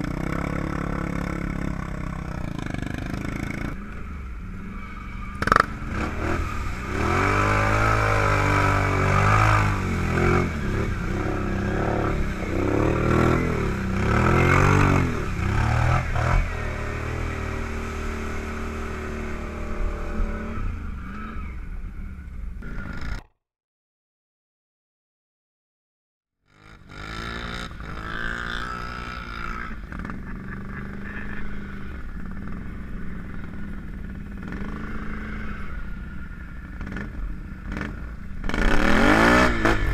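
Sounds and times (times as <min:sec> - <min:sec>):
quad engine revving: 0:00.0 - 0:21.6, 0:26.5 - 0:39.9.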